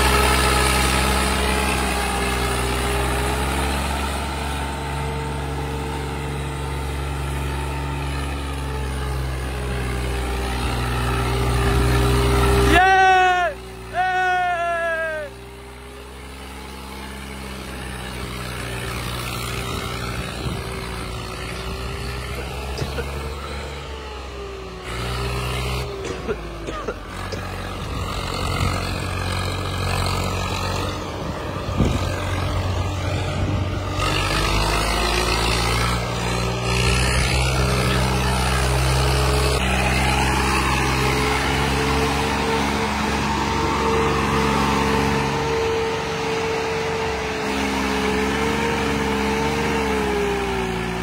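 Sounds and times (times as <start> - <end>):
tractor diesel engine straining: 0.0 - 51.0.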